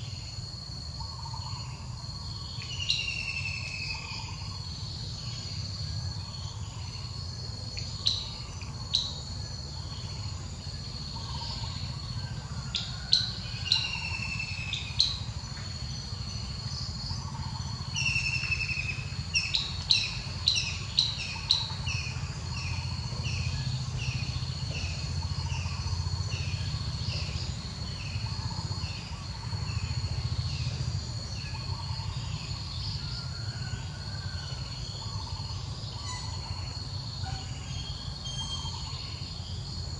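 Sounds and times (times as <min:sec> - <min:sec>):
low steady rumble: 0:00.0 - 0:39.9
birds calling and chirping: 0:00.9 - 0:39.9.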